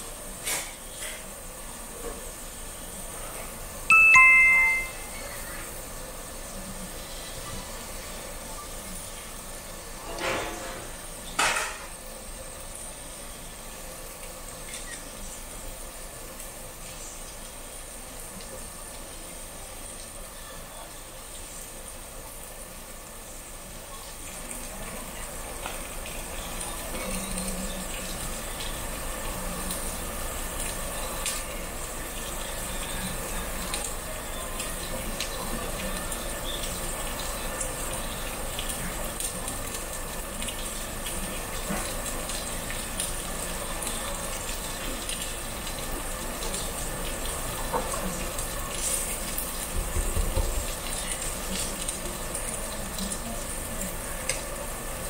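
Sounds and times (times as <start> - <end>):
meat sizzling on a grill: 0.0 - 3.9, 5.1 - 55.0.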